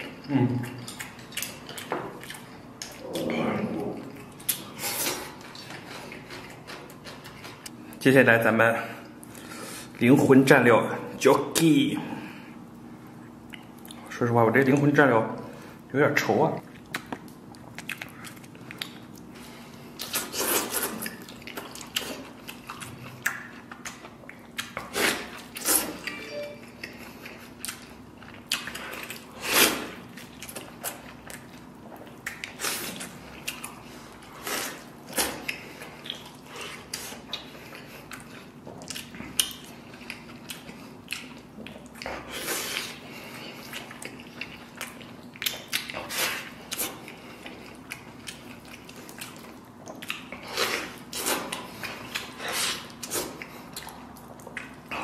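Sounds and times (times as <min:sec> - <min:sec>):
wet chewing: 0:00.0 - 0:07.8, 0:16.6 - 0:26.1, 0:26.7 - 0:55.0.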